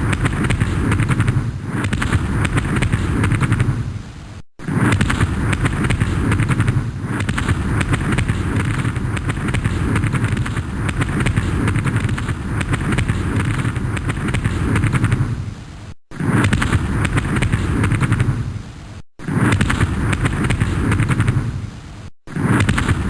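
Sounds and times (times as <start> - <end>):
gunfire bangs: 0.0 - 3.9, 4.6 - 15.4, 16.1 - 18.5, 19.2 - 21.6, 22.3 - 23.0
low rumble of explosions: 0.0 - 23.0.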